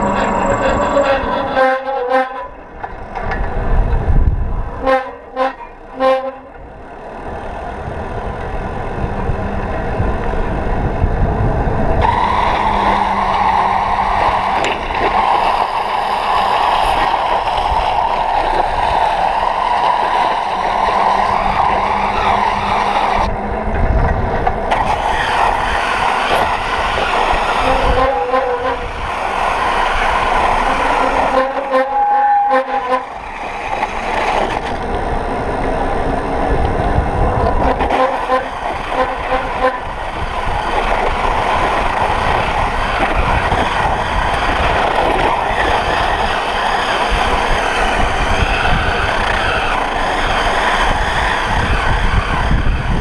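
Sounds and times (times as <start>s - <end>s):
wind rushing over microphone: 2.9s - 4.8s, 6.7s - 31.4s, 33.1s - 53.0s
bicycle tyre noise on asphalt: 6.6s - 32.5s, 33.2s - 53.0s.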